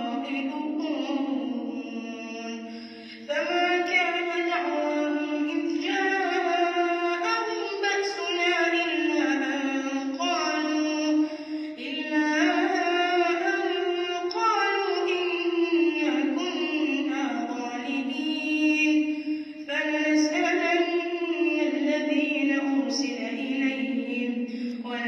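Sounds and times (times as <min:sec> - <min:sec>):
boy reciting melodically: 0:00.0 - 0:25.0.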